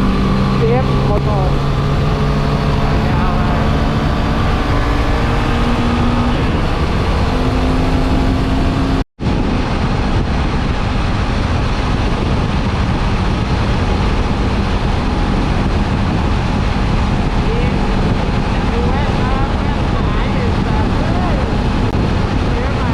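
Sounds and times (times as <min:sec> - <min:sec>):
motorcycle engine cruising: 0:00.0 - 0:22.9
wind rushing on microphone: 0:00.0 - 0:22.9.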